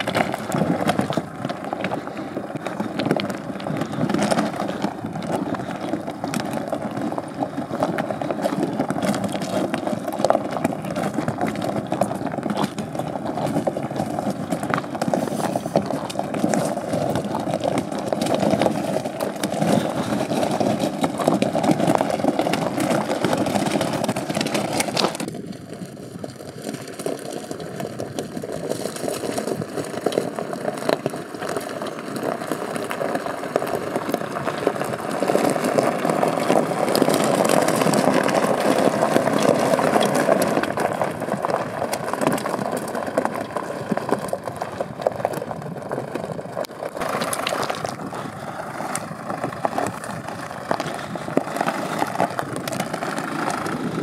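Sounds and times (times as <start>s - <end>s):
clicks and rattles: 0.0s - 25.6s, 26.2s - 54.0s.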